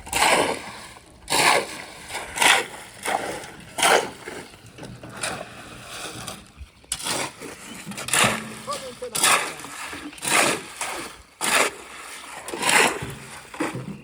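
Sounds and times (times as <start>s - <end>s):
shovel scraping wet mortar: 0.0s - 14.0s.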